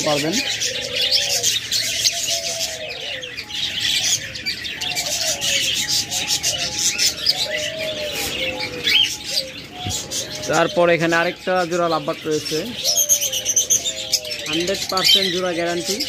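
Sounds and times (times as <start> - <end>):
caged birds chirping: 0.0 - 16.0
doves cooing: 0.0 - 16.0.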